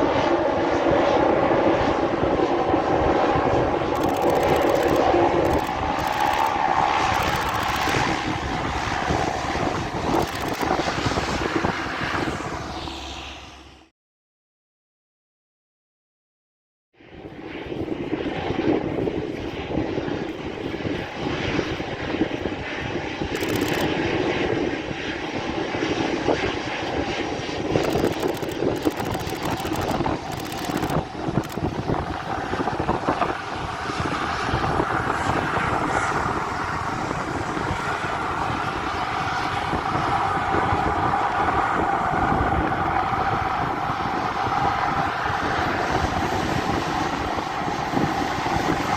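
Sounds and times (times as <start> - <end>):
wind rumble on microphone: 0.0 - 13.8, 17.0 - 48.9
jet engine whine: 0.0 - 13.9, 17.0 - 48.9
jet engines roaring: 0.0 - 13.9, 17.0 - 48.9.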